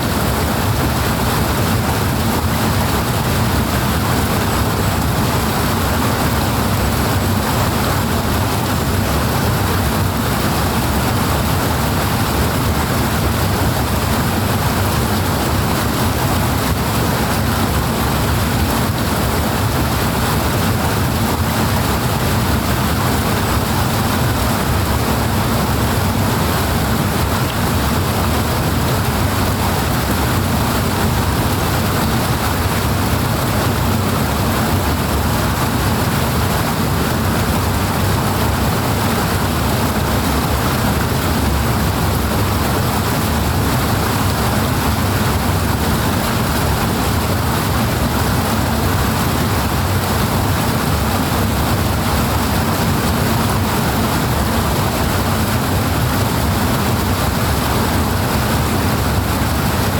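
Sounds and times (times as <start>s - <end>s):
fast-flowing water rushing: 0.0s - 59.9s.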